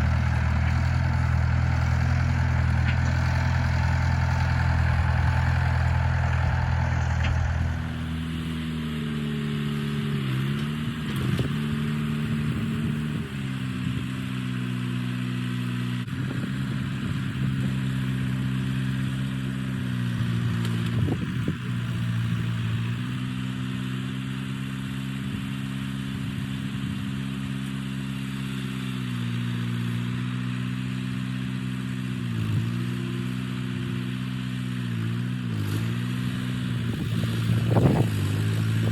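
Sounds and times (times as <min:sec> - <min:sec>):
tractor engine running: 0:00.0 - 0:29.4, 0:30.3 - 0:38.9.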